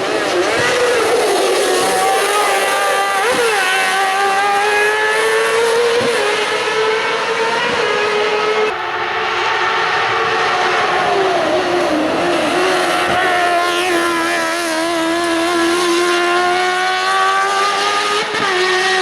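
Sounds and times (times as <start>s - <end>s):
race car engine at high revs: 0.0s - 19.0s.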